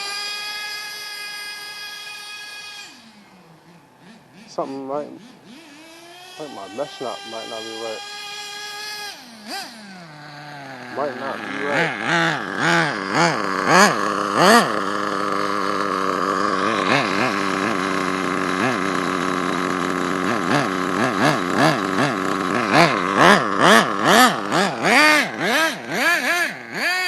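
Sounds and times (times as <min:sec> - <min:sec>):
model truck nitro engine revving: 0:00.0 - 0:27.0.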